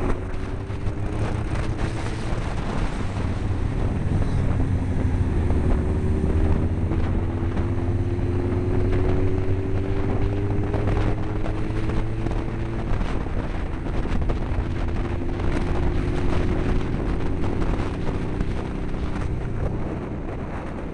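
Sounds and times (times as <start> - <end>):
motorcycle engine: 0.0 - 20.9
wind buffeting on microphone: 0.0 - 20.9.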